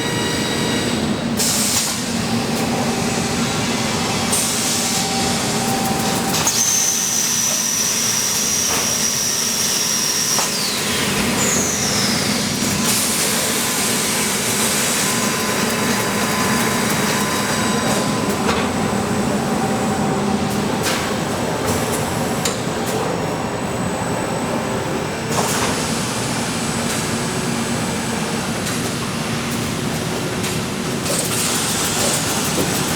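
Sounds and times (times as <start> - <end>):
factory machinery running: 0.0 - 32.9.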